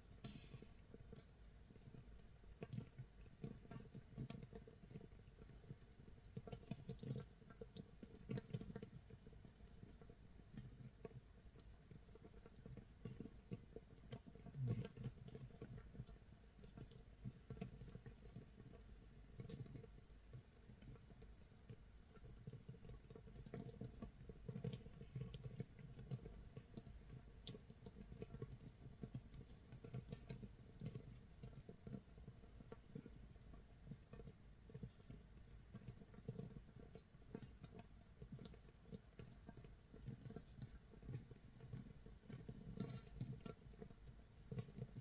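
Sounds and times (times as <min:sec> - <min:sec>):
fermentation bubbles popping: 0:00.0 - 0:45.0.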